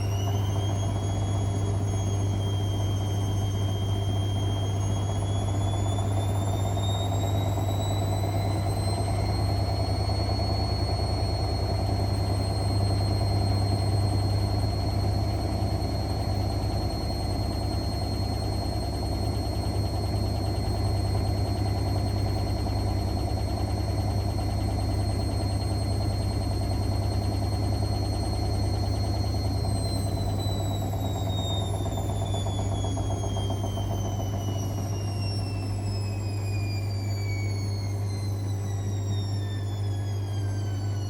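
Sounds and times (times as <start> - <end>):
washing machine running: 0.0 - 41.0.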